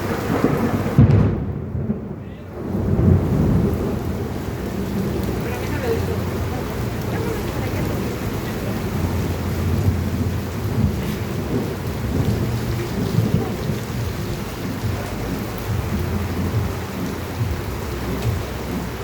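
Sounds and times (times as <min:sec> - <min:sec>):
heavy rain on street: 0:00.0 - 0:19.0
low rumble: 0:00.0 - 0:19.0.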